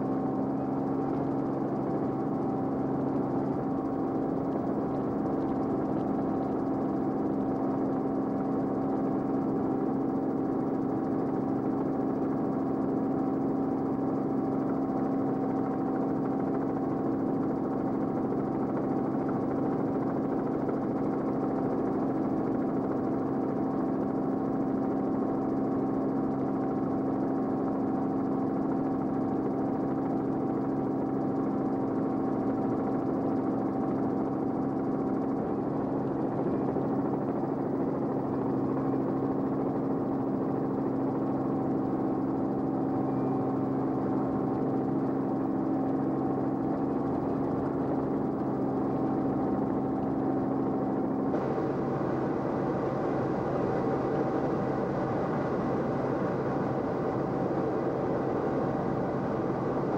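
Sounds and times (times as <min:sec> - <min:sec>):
aircraft engine drone in cabin: 0:00.0 - 0:59.9.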